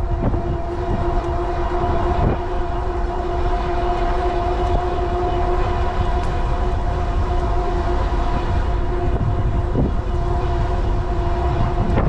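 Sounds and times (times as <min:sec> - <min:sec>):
steady droning tone: 0:00.0 - 0:12.0
wind buffeting microphone: 0:00.0 - 0:12.0.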